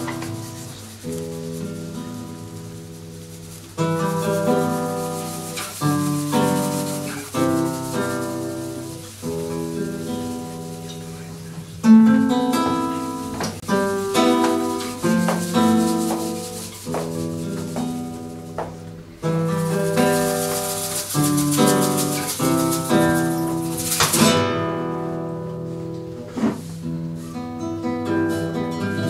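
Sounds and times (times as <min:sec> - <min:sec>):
acoustic guitars strumming: 0:00.0 - 0:29.0
shaker keeping time: 0:00.0 - 0:29.0.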